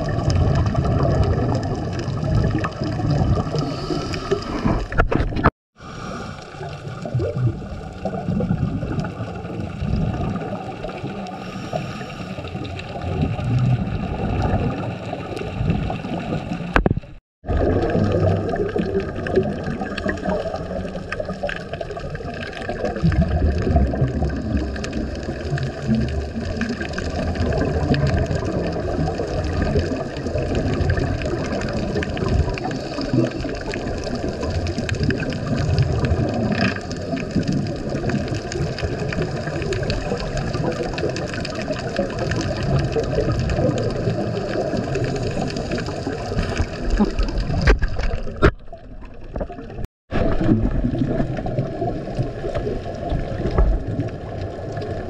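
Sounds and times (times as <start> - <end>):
underwater bubbles gurgling: 0.0 - 55.0.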